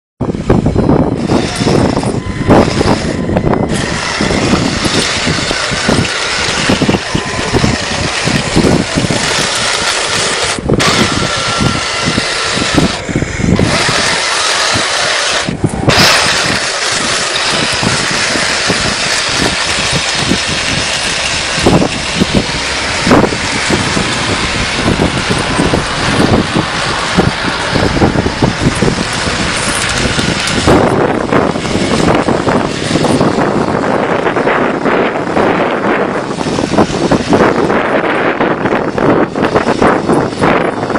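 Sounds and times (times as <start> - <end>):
electric drive motors running: 0.2 - 40.9.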